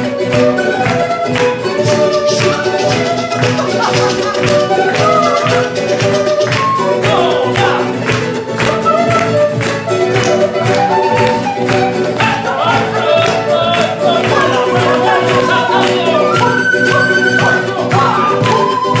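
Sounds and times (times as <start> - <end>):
flute melody: 0.0 - 19.0
strummed acoustic guitar: 0.0 - 19.0
strummed charango: 0.0 - 19.0.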